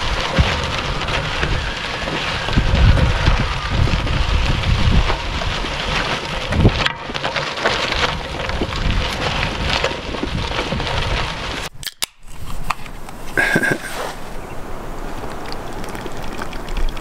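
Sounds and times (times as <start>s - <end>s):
bike tyres crunching on gravel: 0.0s - 16.3s
wind buffeting microphone: 0.0s - 17.0s.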